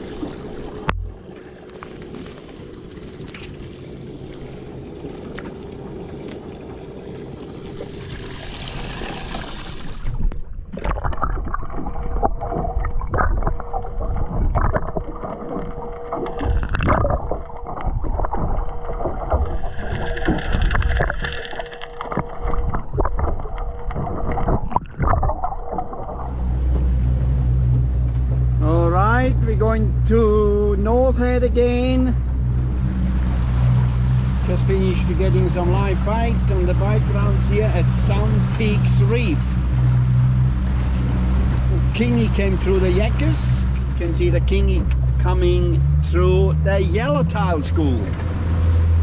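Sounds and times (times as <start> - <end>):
faint steady hum: 0.0 - 49.0
water lapping around kayak: 0.0 - 49.0
water splashes: 0.0 - 49.0.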